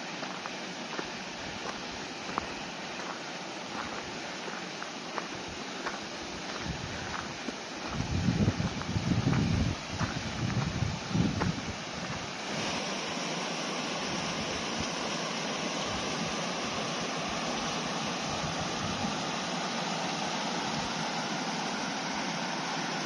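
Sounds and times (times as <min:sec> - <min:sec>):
stream rushing over boulders: 0:00.0 - 0:23.0.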